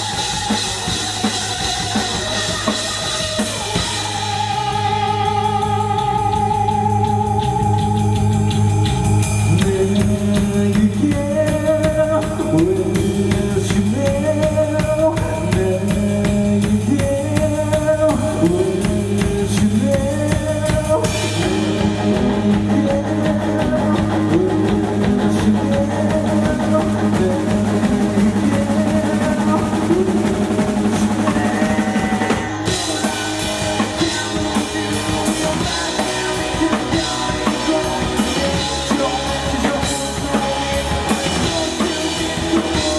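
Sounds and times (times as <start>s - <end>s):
drum kit beat: 0.0s - 42.9s
live rock band playing: 0.0s - 42.9s.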